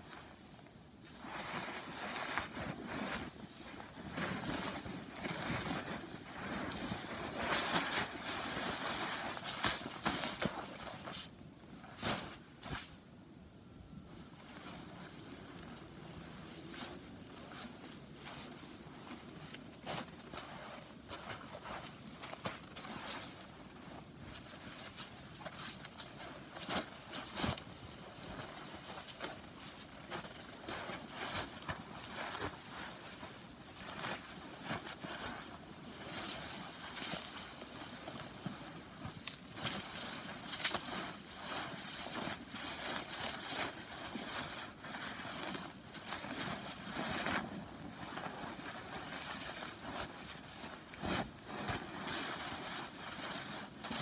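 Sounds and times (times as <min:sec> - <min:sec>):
footsteps crunching in snow: 0:01.0 - 0:12.9, 0:14.4 - 0:54.0.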